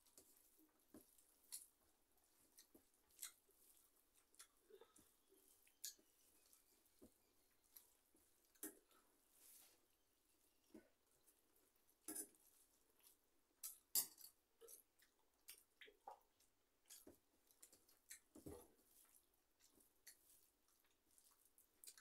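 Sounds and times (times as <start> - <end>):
soft food squishes: 0.0 - 22.0.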